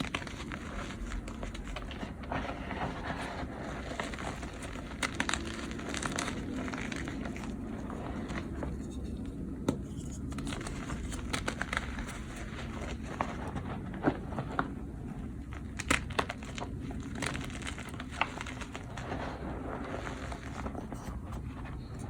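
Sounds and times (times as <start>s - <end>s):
chalk crumbling and cracking: 0.0s - 22.0s
steady low hum: 0.0s - 22.0s.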